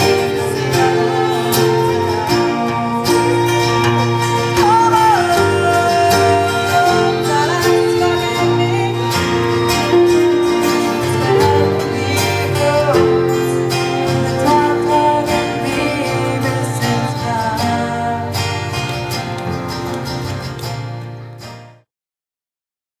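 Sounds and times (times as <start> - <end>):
gliding melody line: 0.0 - 20.0
live pop band playing: 0.0 - 21.7.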